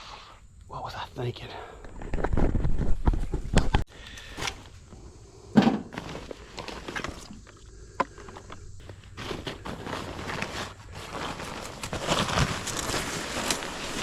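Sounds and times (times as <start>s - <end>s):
knocks and rustling on ground: 1.9s - 4.8s, 5.5s - 14.0s.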